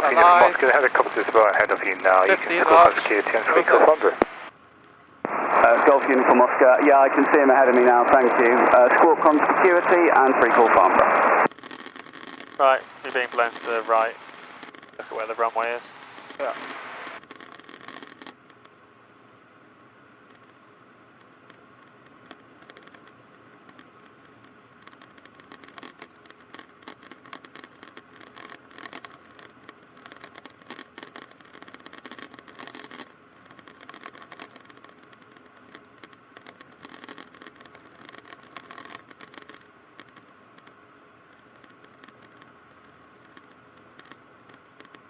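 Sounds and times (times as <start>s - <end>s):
scratchy radio crackling: 0.0s - 4.6s, 5.2s - 18.8s, 19.4s - 45.0s
faint steady hiss: 0.0s - 45.0s.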